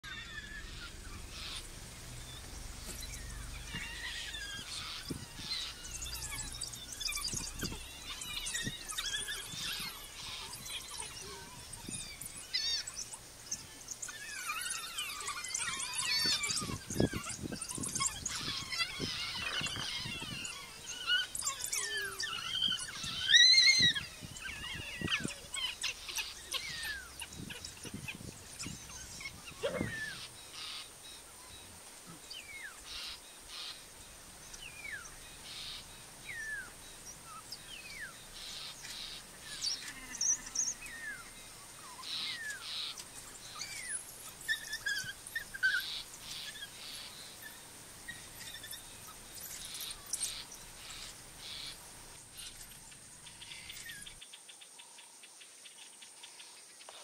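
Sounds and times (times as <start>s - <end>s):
wild dogs twittering calls: 0.0s - 54.2s.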